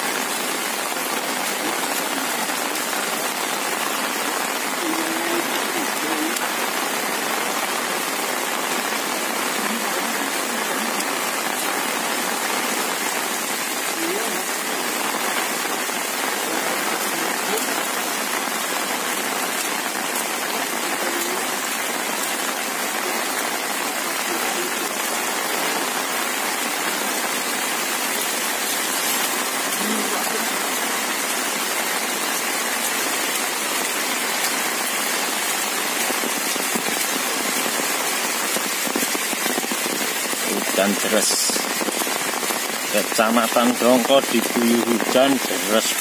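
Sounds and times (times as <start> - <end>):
heavy rain pouring: 0.0 - 46.0.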